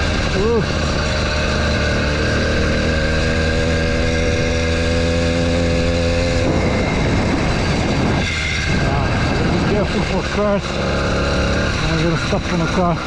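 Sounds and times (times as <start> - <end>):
two-stroke engine running hard: 0.0 - 13.0.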